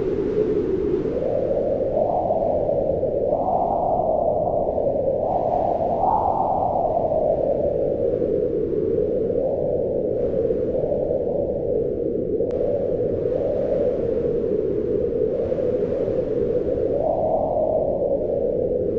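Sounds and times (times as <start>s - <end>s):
wind howling: 0.0s - 18.9s.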